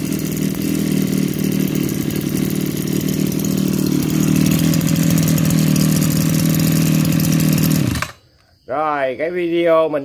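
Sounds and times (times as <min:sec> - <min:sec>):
brush cutter engine idling: 0:00.0 - 0:08.5.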